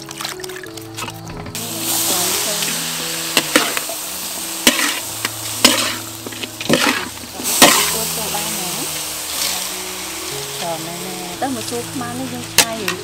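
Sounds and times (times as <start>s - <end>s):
food sizzling in a wok: 1.5s - 13.0s
utensil scraping and knocking wok: 1.5s - 13.0s.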